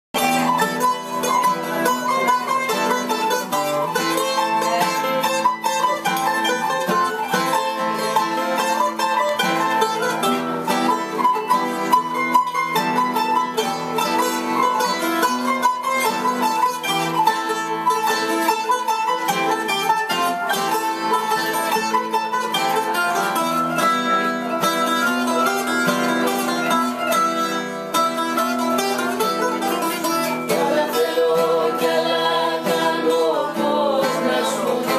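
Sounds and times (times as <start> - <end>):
acoustic guitar: 0.1 - 34.9
lute: 0.2 - 34.9
zither: 0.2 - 34.9.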